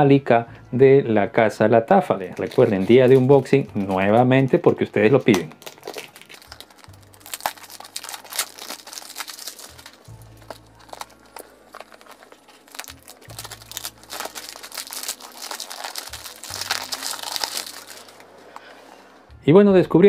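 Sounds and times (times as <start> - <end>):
soft background music: 0.0 - 20.0
plastic wrap crinkling: 2.0 - 18.7.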